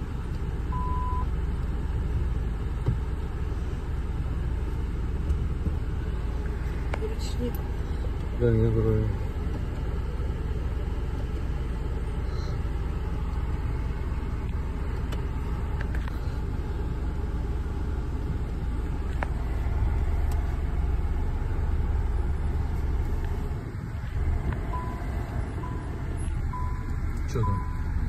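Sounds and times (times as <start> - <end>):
car engine rumble inside cabin: 0.0 - 28.0.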